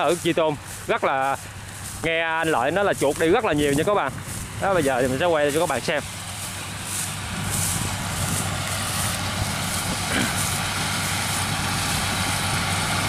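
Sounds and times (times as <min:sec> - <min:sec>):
combine harvester engine droning: 0:00.0 - 0:13.0.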